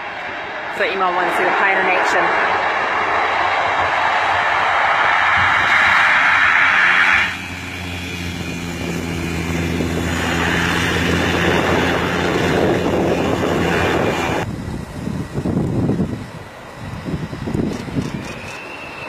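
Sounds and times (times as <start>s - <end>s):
propeller plane droning: 0.0s - 19.0s
propeller plane roaring on takeoff: 0.0s - 19.0s.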